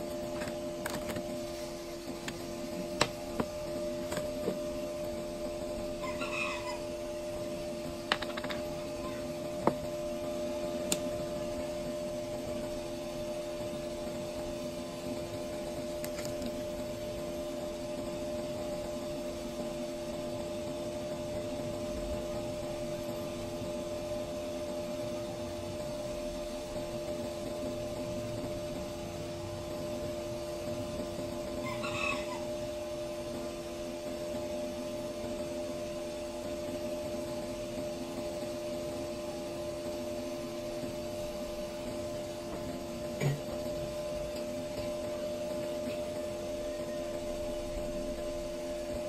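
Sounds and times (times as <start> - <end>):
electrical hum: 0.0 - 49.0
whirring of equipment: 0.0 - 49.0.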